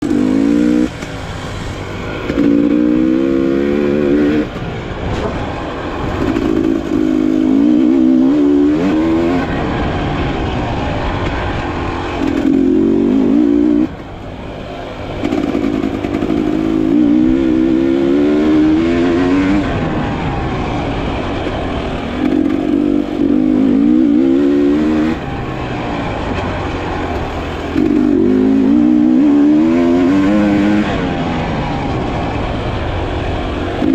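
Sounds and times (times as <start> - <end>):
motorcycle engine revving hard: 0.0 - 14.0, 15.2 - 33.9.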